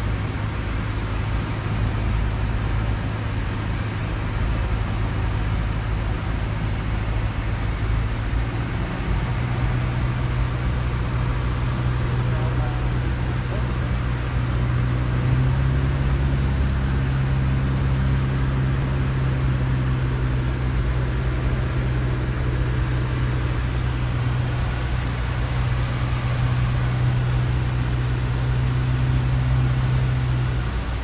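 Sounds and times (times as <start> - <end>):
propeller aircraft engine drone: 0.0 - 31.0.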